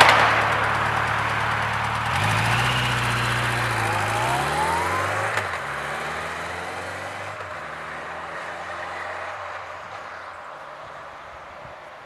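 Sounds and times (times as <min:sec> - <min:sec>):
motorcycle engine pulling away: 0:00.0 - 0:10.2.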